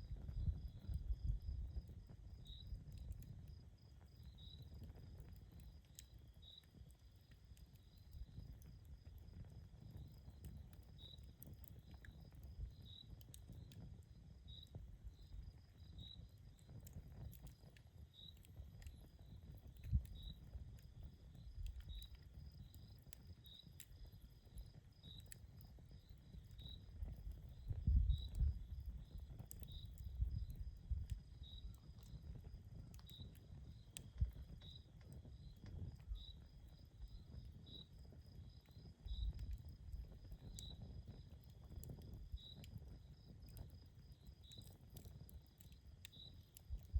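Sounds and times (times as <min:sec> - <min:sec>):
campfire crackling and popping: 0:00.1 - 0:46.9
cricket chirping: 0:00.3 - 0:06.7, 0:09.9 - 0:13.8, 0:14.4 - 0:16.6, 0:17.2 - 0:46.7.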